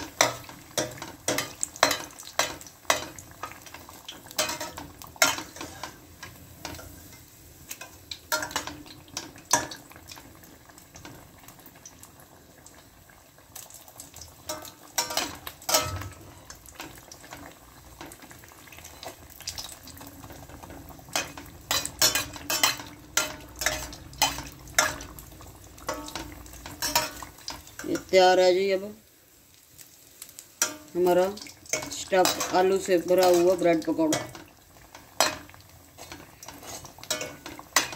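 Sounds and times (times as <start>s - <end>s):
deep-frying oil sizzle: 0.0s - 37.9s.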